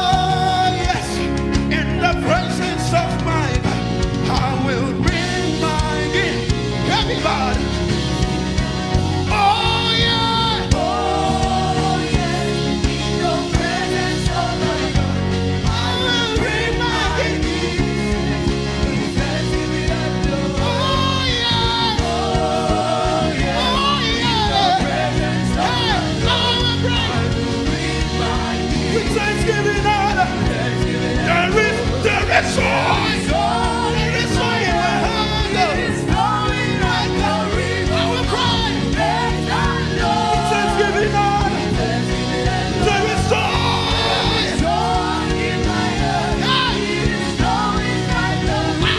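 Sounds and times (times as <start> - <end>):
gospel singing: 0.0 - 48.9
instrumental accompaniment: 0.0 - 48.9.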